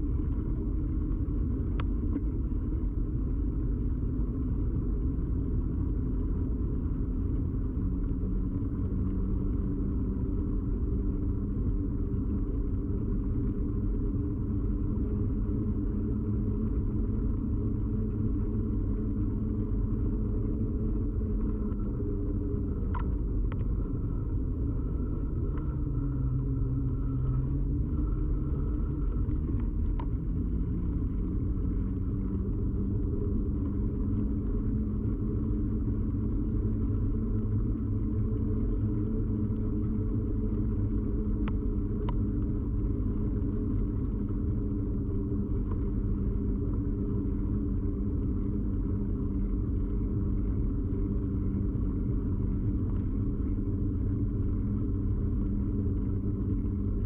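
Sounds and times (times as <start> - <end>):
bicycle ride rumble and hum: 0.0 - 57.0.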